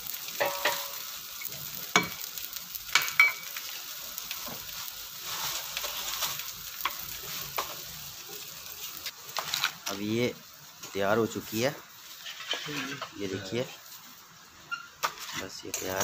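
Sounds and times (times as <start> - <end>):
cheese and bread sizzling on griddle: 0.0 - 16.0.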